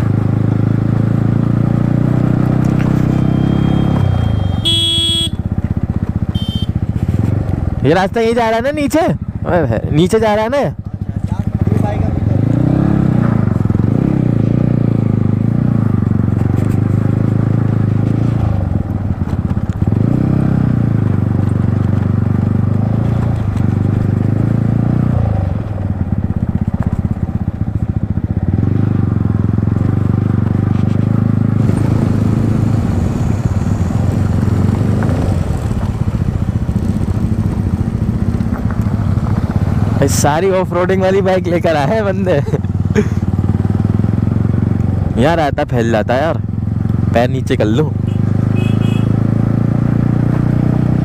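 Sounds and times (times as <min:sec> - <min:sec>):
motorcycle engine at low revs: 0:00.0 - 0:51.0.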